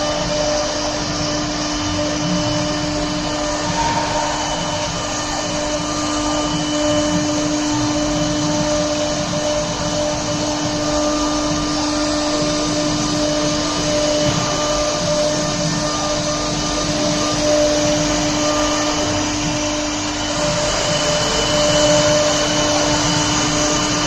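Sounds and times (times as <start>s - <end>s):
cnc router spindle whine: 0.0s - 24.0s.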